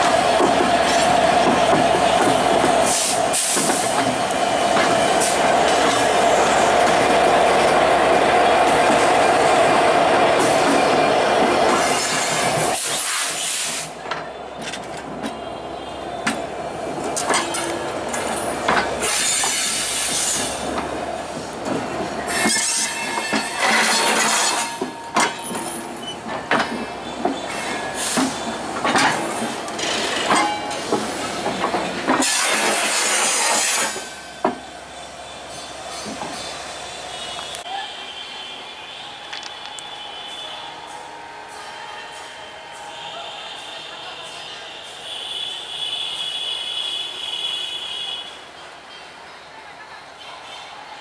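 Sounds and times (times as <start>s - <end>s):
diesel locomotive engine: 0.0s - 51.0s
rumble of train coaches: 0.0s - 51.0s.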